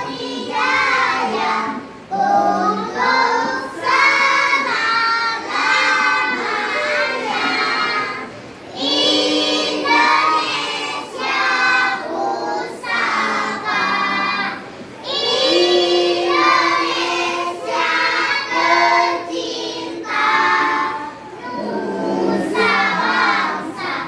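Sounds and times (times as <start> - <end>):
children singing in chorus: 0.0 - 24.0.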